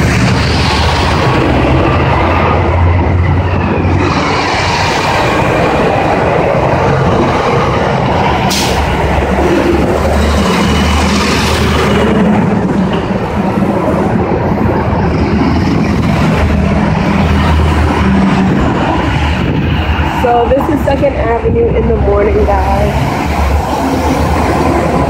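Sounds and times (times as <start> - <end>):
vehicles passing with engine rumble: 0.0 - 25.0.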